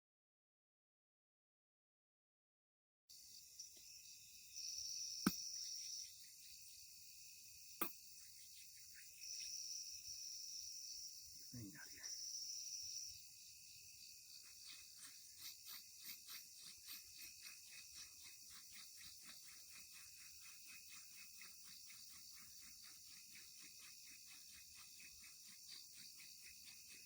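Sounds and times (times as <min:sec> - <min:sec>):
crickets chirping: 0:03.1 - 0:27.0.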